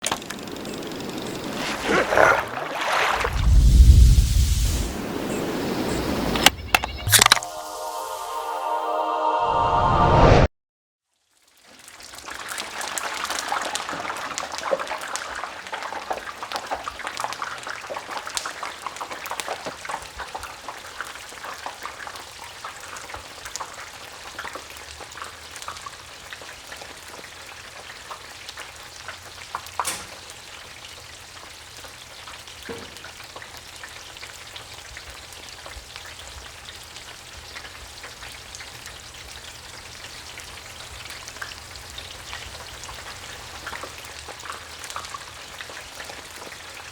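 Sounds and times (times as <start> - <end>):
fries deep-frying in hot oil: 3.2 - 6.4, 11.0 - 46.9.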